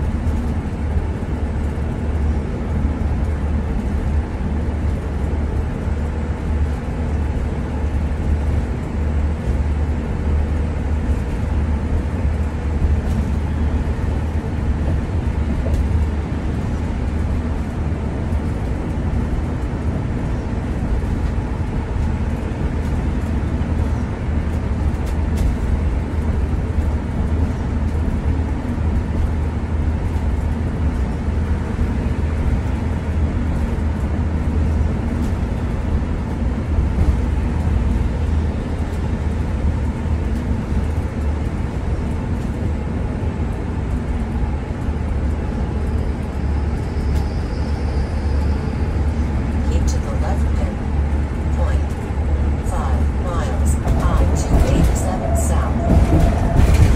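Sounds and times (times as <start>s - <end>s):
engine and road noise rumble: 0.0s - 56.9s.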